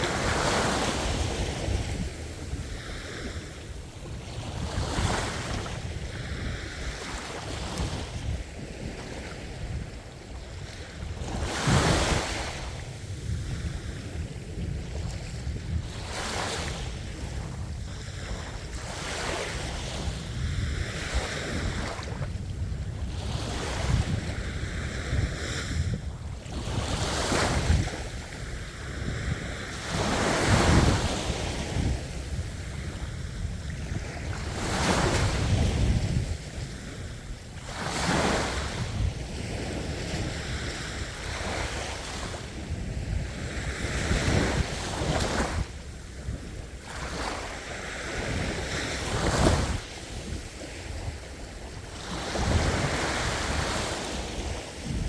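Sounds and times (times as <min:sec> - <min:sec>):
waves breaking: 0:00.0 - 0:55.0
wind rumble on microphone: 0:00.0 - 0:55.0.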